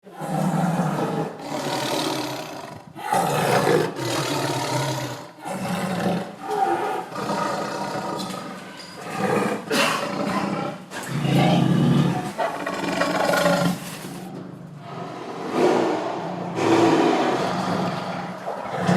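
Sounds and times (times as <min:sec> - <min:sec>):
tiger roaring and growling: 0:00.0 - 0:18.9.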